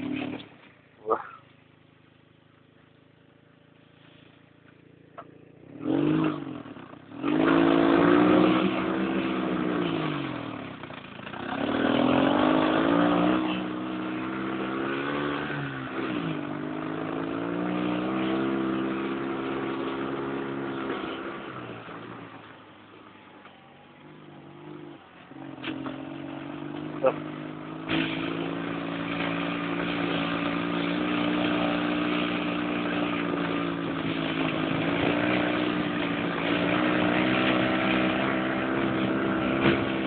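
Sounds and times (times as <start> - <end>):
dune buggy engine revving: 0.0 - 40.0.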